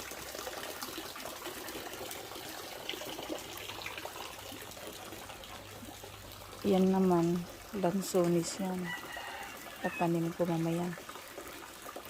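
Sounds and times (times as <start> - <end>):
faint water drips: 0.0 - 12.0
steady rain hiss: 0.0 - 12.0.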